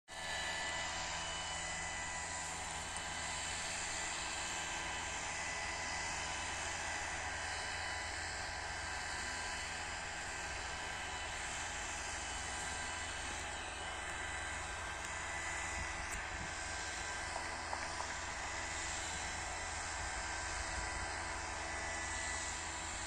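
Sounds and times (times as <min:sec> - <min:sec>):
small engine droning: 0:00.1 - 0:23.0.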